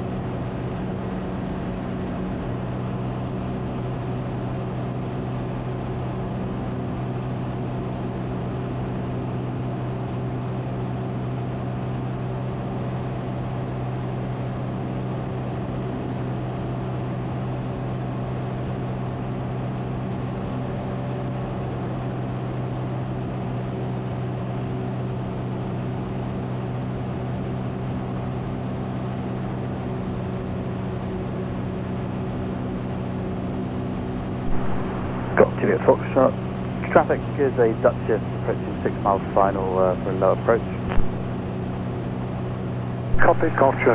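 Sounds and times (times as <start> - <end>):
light aircraft engine droning: 0.0 - 43.9.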